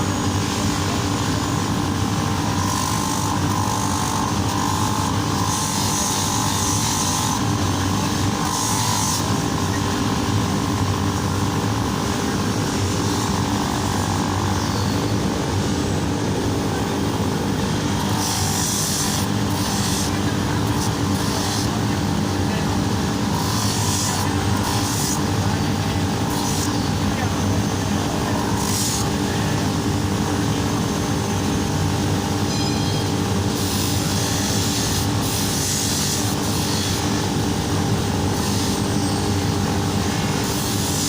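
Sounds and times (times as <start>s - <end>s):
motor running with low hum: 0.0s - 41.0s.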